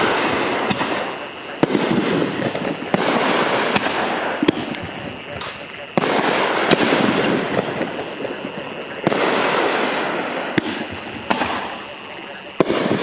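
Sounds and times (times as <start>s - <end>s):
firework crackle: 0.0s - 13.0s
firework shells bursting: 0.0s - 13.0s
small firework pops: 0.6s - 9.8s, 10.5s - 11.9s, 12.6s - 13.0s.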